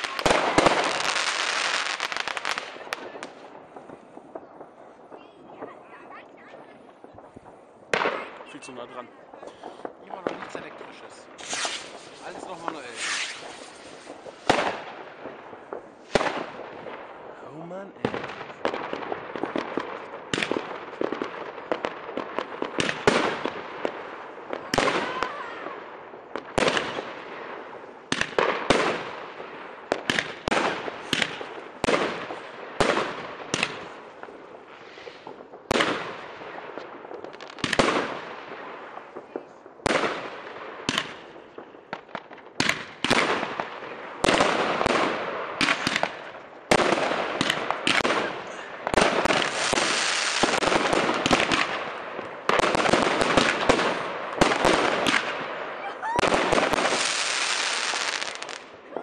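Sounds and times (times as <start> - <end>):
fireworks bursting with bangs: 0.0 - 59.0
fireworks crackling: 0.0 - 59.0.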